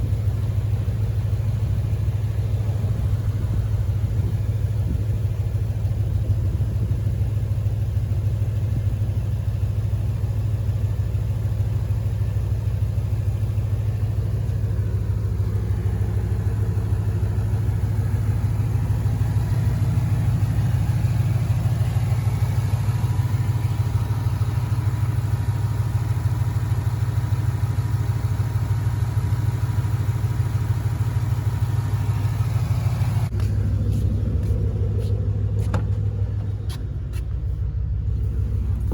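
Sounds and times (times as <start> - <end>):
car engine running: 0.0 - 38.9
engine knocking: 0.0 - 38.9.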